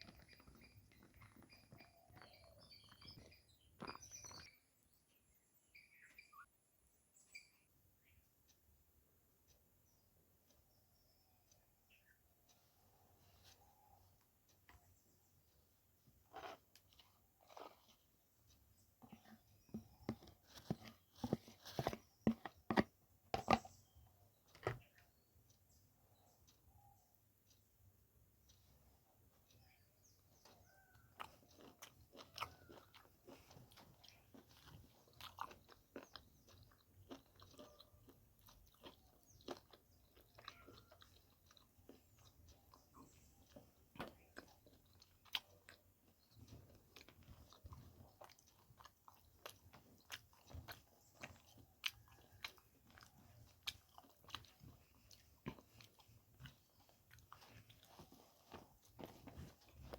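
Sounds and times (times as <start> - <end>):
chewing with mouth clicks and smacks: 0.0 - 4.6, 11.5 - 26.6, 28.4 - 59.9.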